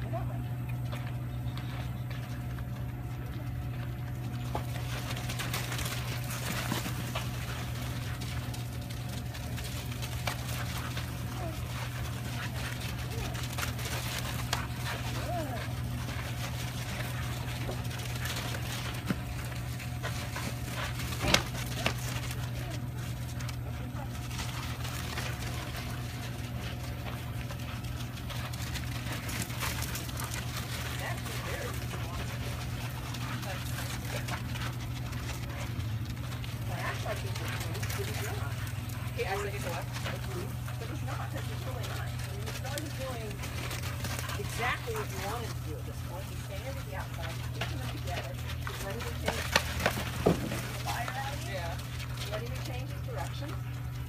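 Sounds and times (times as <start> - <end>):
sheep hooves running: 0.0 - 54.0
steady low hum: 0.0 - 54.0.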